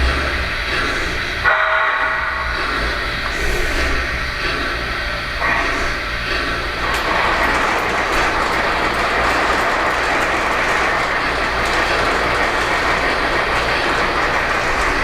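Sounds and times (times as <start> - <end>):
low motor hum: 0.0 - 15.0
model train wheels clattering on rail: 0.0 - 15.0.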